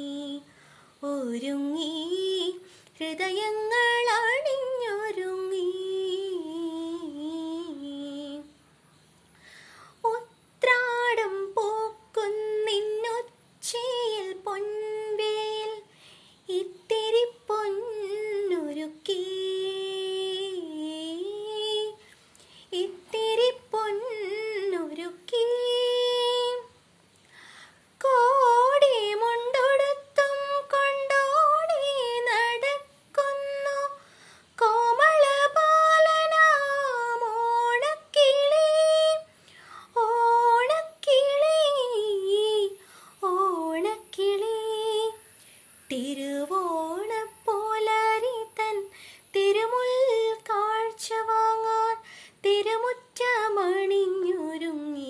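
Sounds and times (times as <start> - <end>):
woman singing unaccompanied: 0.0 - 8.6, 9.9 - 27.0, 27.7 - 55.0.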